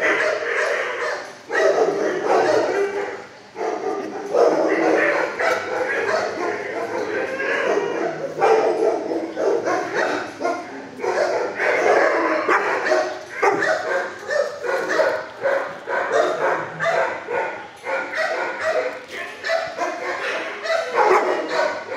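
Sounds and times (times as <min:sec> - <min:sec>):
dogs barking and yipping: 0:00.0 - 0:21.9.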